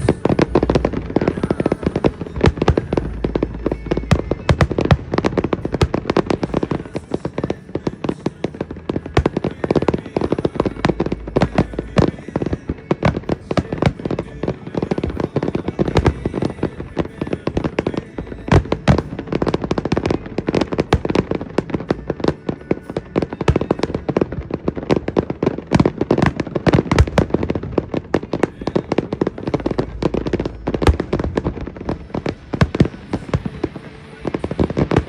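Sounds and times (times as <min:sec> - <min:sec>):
fireworks bangs and crackles: 0:00.0 - 0:35.0
loud firework bangs: 0:00.0 - 0:35.0.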